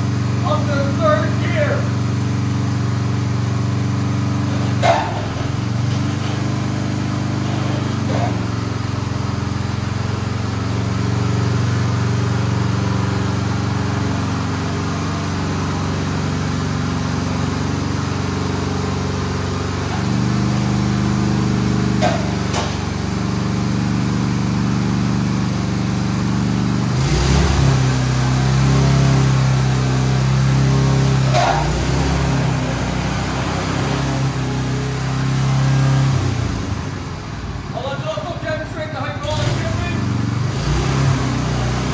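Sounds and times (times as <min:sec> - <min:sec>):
small engine running: 0:00.0 - 0:37.4, 0:39.2 - 0:41.9.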